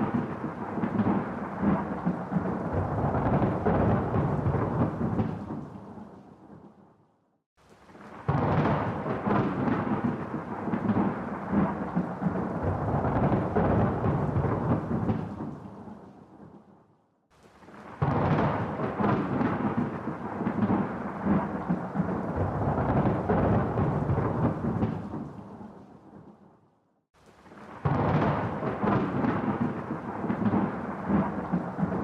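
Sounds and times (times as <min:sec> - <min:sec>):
thunder rumbling: 0:00.0 - 0:06.7, 0:07.9 - 0:16.6, 0:17.6 - 0:26.4, 0:27.4 - 0:32.0.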